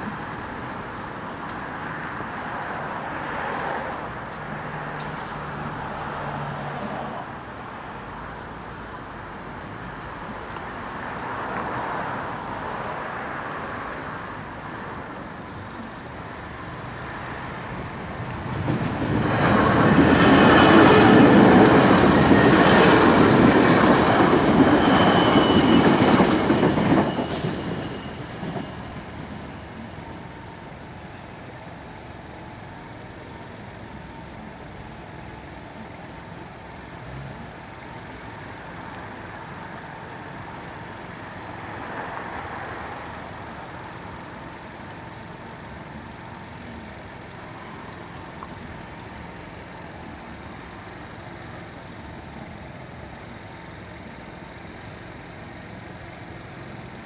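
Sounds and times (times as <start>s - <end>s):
train passing with high whine: 0.0s - 57.0s.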